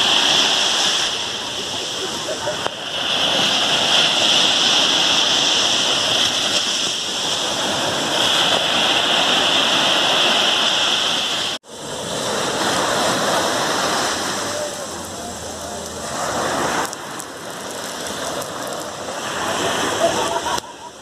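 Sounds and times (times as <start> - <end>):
small waves breaking on a beach: 0.0 - 21.0.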